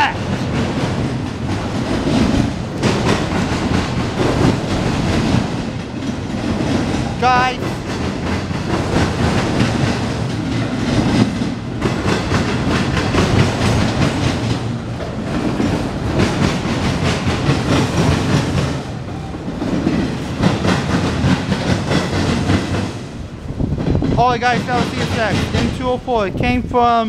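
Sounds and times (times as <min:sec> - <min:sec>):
wheels clacking over rail joints: 0:00.0 - 0:26.1
freight train wheels rumbling on rails: 0:00.0 - 0:27.0.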